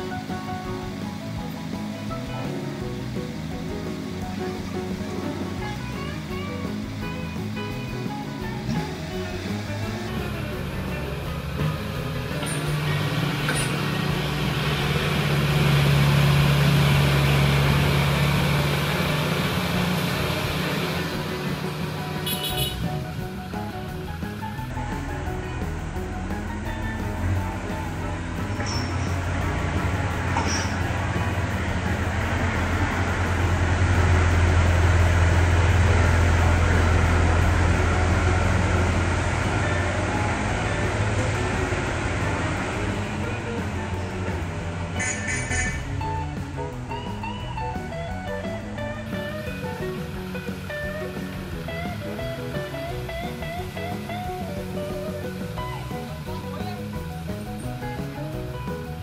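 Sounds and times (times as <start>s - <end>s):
diesel engines running under load: 0.0s - 59.0s.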